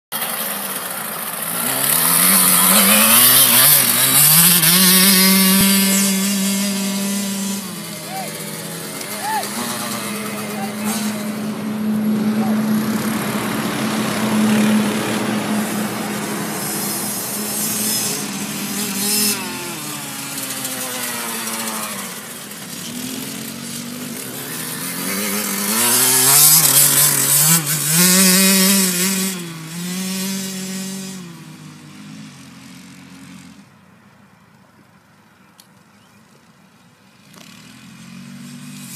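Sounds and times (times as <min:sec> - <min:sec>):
dirt bike engine revving: 0:00.2 - 0:33.7, 0:37.2 - 0:38.9.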